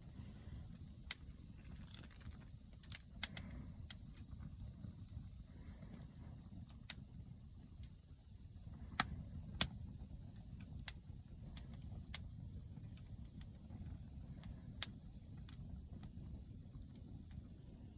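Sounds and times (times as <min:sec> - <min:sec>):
campfire crackling and popping: 0:00.7 - 0:17.9.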